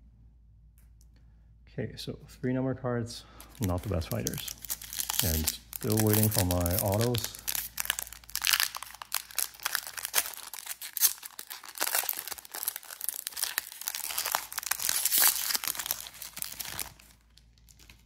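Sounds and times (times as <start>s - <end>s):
foil wrapper crinkling and tearing: 3.4s - 18.0s.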